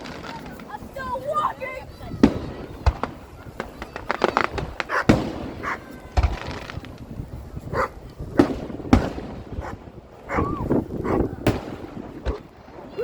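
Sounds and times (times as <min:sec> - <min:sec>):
fireworks bangs and crackles: 0:00.0 - 0:13.0
loud fireworks booms: 0:00.0 - 0:13.0.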